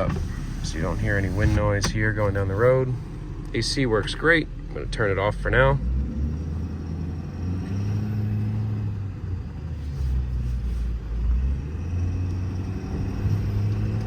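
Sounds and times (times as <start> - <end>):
diesel engine rumble: 0.0 - 14.0
road noise: 0.0 - 14.0.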